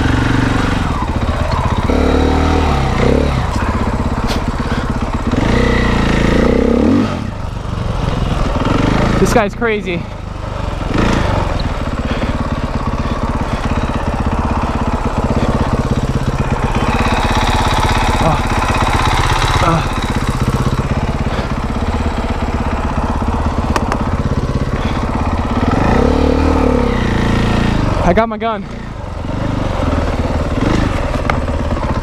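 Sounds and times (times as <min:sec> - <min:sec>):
dirt bike engine idling: 0:00.0 - 0:32.0.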